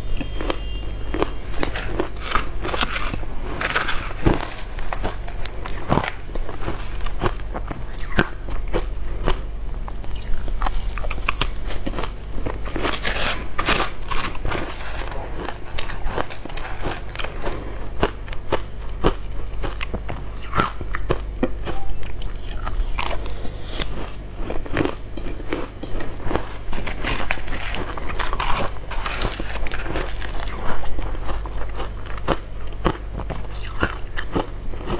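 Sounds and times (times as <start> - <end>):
crunching and chewing ice: 0.0 - 34.9.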